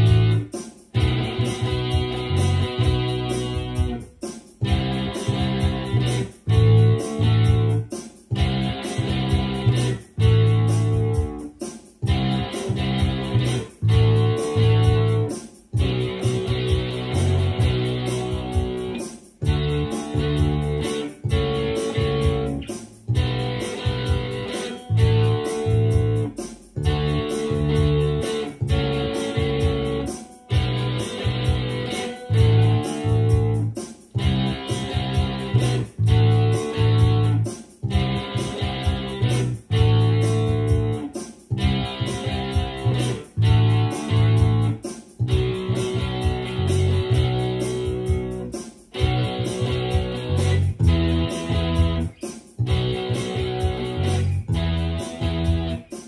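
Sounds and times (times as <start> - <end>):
electric guitar chordal riff: 0.0 - 11.4, 12.0 - 55.9
bass: 0.0 - 56.0
drums: 0.0 - 56.0.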